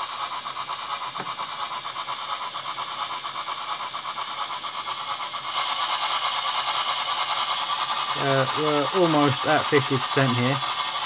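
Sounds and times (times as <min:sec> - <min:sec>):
steam chuffs from small speaker: 0:00.0 - 0:11.0.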